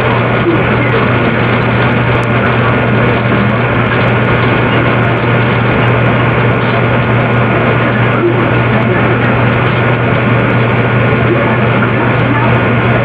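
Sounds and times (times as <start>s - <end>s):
low droning hum: 0.0s - 13.0s.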